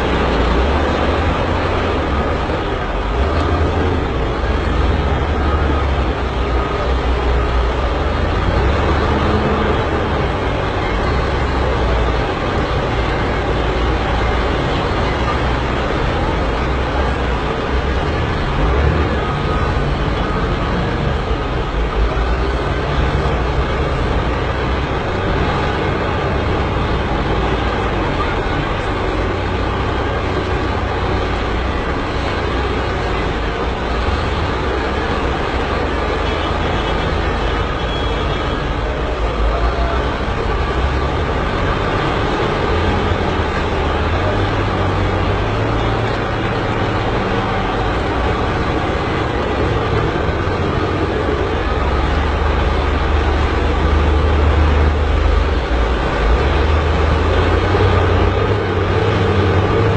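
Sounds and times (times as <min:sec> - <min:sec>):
constant rushing noise: 0:00.0 - 0:59.9
heavy diesel engines droning: 0:00.0 - 0:59.9.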